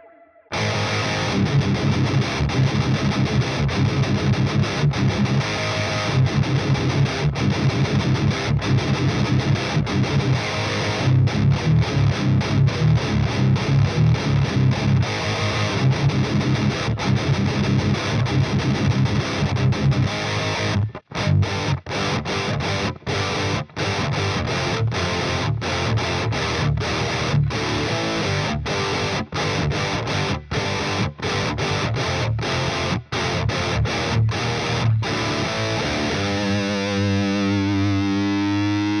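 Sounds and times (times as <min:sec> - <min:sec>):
distorted electric guitar riff: 0:00.0 - 0:39.0.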